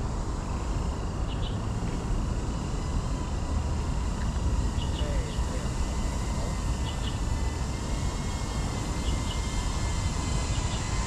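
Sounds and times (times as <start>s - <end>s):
faint high hums: 0.0s - 11.0s.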